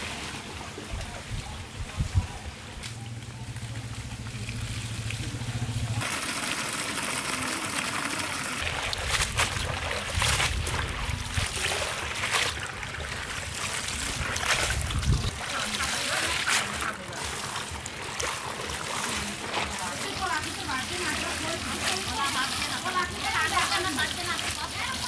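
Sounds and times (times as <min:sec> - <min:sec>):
hose water running into tray: 0:04.3 - 0:25.0.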